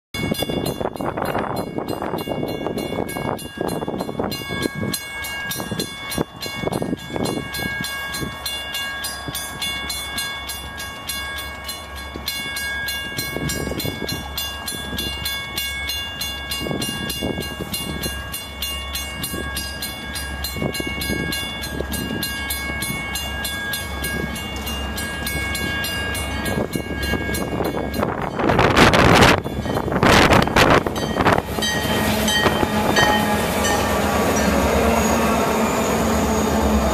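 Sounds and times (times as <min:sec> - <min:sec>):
crossing bell ringing: 0:00.2 - 0:36.9
diesel locomotive engine rumble: 0:00.2 - 0:36.9.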